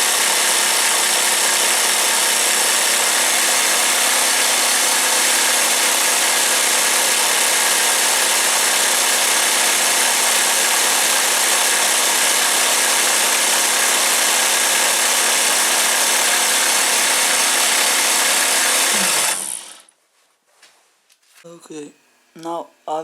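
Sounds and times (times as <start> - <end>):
electric jigsaw running: 0.0 - 19.9.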